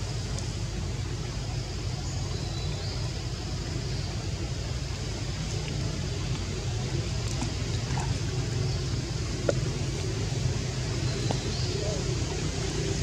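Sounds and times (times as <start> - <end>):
low outdoor rumble: 0.0 - 13.0
water trickling: 0.3 - 13.0.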